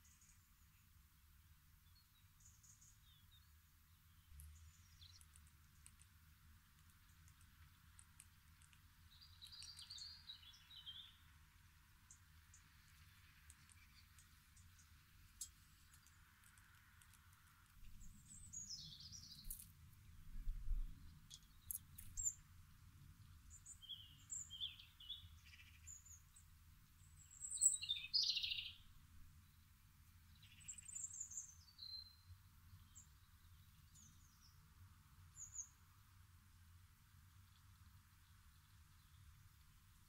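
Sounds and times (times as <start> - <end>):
small songbirds chirping: 0.0 - 40.0.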